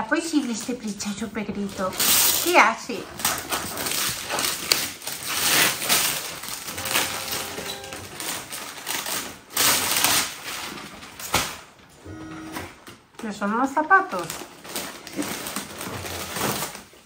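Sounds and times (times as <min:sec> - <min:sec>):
gift wrapping rustling: 0:00.3 - 0:11.9, 0:13.2 - 0:17.0.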